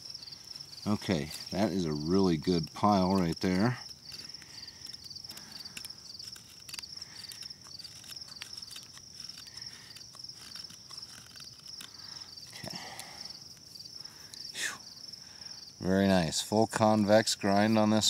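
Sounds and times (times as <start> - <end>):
knife scraping wood shavings: 0.0 - 14.6
insects chirring: 0.0 - 18.0.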